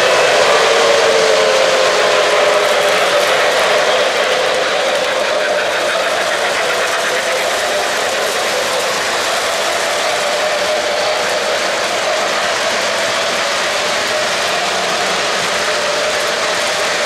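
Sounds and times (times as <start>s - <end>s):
model trains rattling on track: 0.0s - 17.0s.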